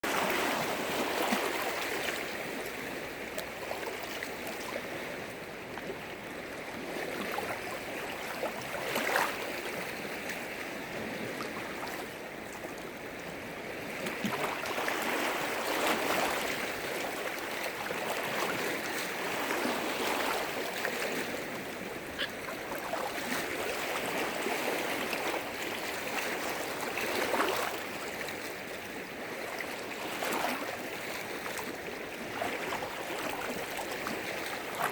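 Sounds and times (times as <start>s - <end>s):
lake waves washing on shore: 0.0s - 34.9s.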